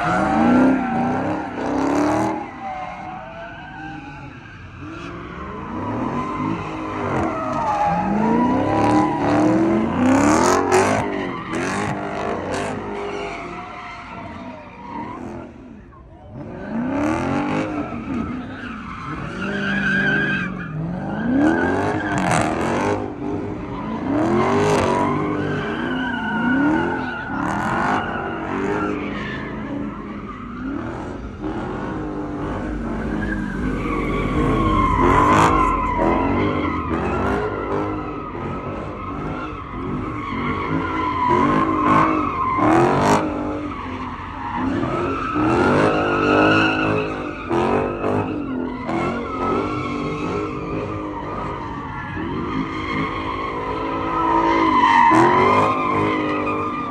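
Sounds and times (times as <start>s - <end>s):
car engines revving: 0.0s - 56.9s
tires squealing: 0.0s - 56.9s.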